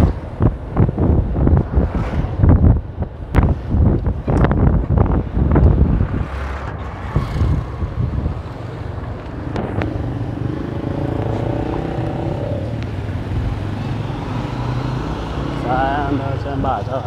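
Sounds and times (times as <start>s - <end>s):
outdoor street noise: 0.0s - 17.0s.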